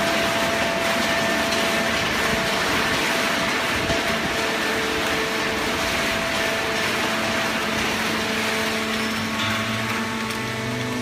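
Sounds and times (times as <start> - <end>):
baler machine humming: 0.0 - 11.0
deeper machine hum: 0.0 - 11.0.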